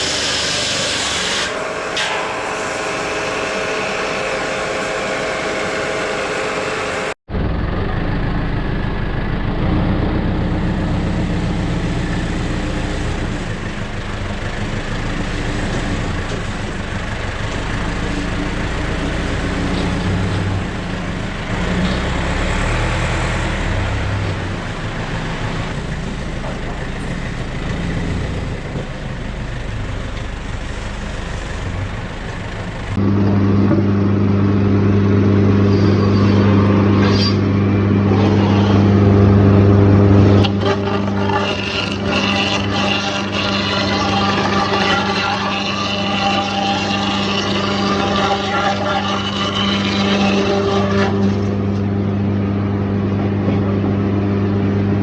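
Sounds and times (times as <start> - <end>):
engine-driven machinery running: 0.0 - 55.0.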